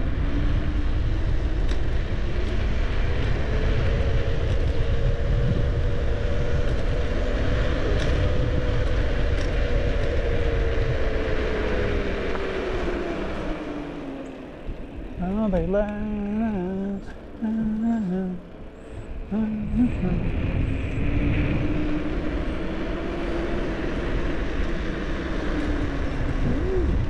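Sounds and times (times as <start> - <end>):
steady humming tone: 0.0 - 27.0
wind rumbling on microphone: 0.0 - 27.0.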